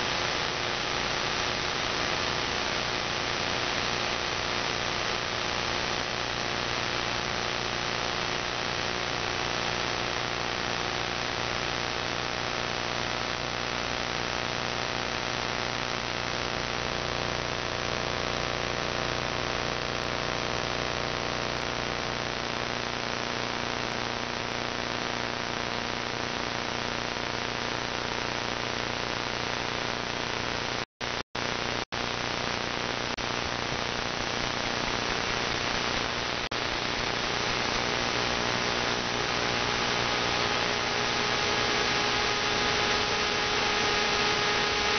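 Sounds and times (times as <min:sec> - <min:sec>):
radio static hiss: 0:00.0 - 0:44.9.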